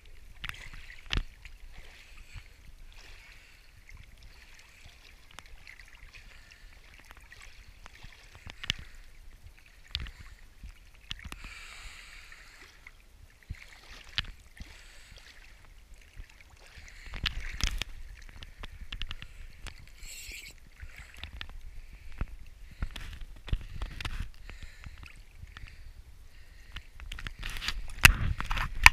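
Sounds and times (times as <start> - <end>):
water lapping and sloshing: 0.0 - 28.9.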